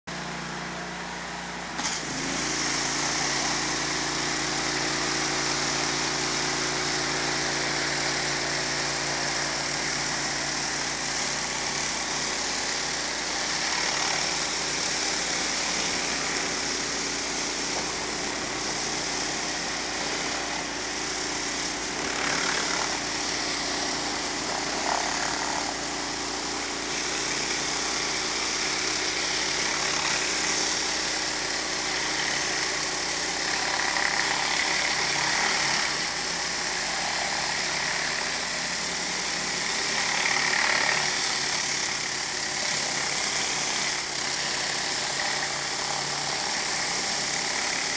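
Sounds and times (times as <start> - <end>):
pressure washer engine drone: 0.0 - 47.9
pressure washer spray hissing: 0.1 - 47.9.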